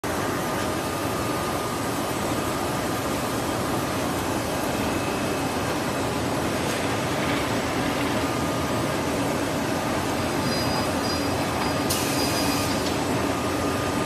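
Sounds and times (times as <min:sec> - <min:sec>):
production line machinery din: 0:00.1 - 0:14.0.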